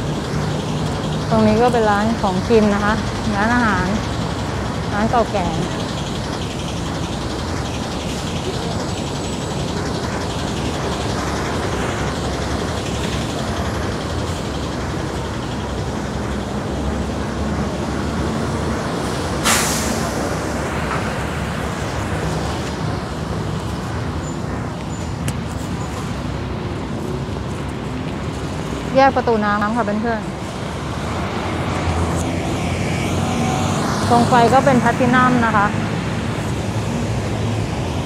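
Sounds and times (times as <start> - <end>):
vehicle engines and tyre noise: 0.0 - 38.0.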